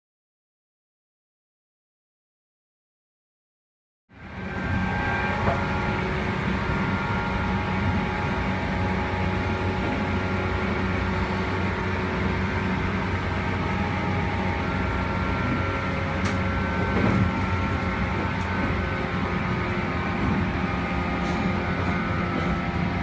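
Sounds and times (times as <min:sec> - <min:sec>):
low hum: 0:04.1 - 0:23.0
traction motor whine: 0:04.1 - 0:23.0
train rolling noise: 0:04.1 - 0:23.0.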